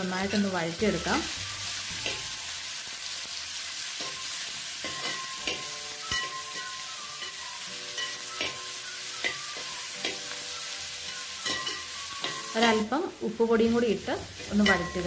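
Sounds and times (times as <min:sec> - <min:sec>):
onions sizzling in a pot: 0:00.0 - 0:15.0.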